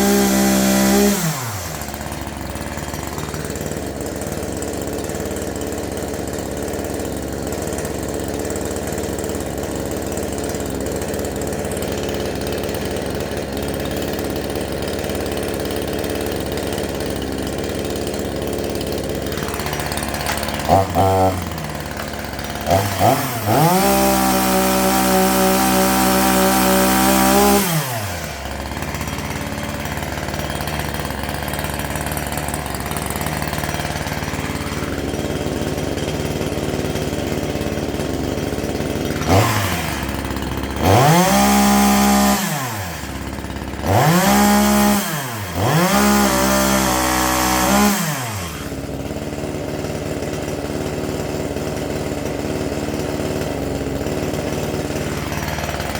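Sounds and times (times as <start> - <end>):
chainsaw revving and idling: 0.0 - 55.9.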